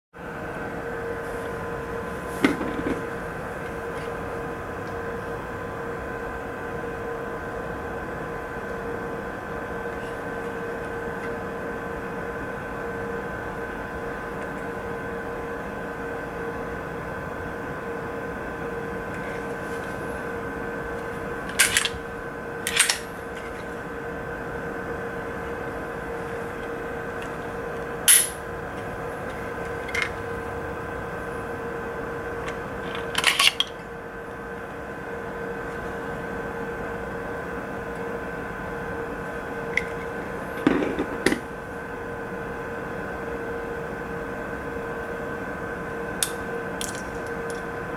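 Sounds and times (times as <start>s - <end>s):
steady background hum: 0.2s - 47.9s.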